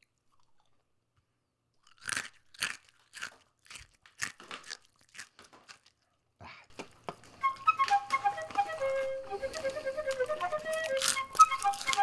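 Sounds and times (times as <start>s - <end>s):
crisp food being chewed: 0.0s - 12.0s.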